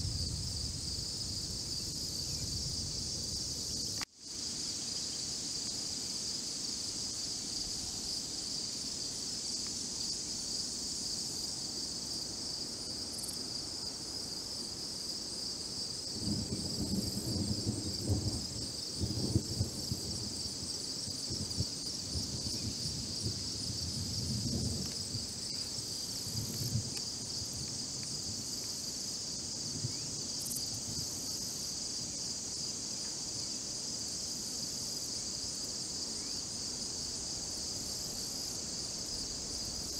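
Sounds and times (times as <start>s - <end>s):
crickets and katydids chorus: 0.0s - 39.9s.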